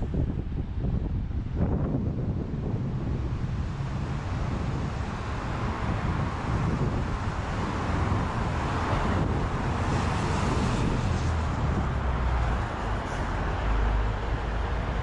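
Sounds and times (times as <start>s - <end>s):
cars driving past: 2.1s - 15.0s.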